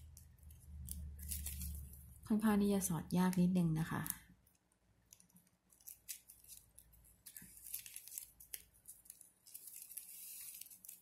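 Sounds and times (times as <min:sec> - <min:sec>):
ribbon crinkling and rustling: 0:00.0 - 0:02.3, 0:03.1 - 0:11.0.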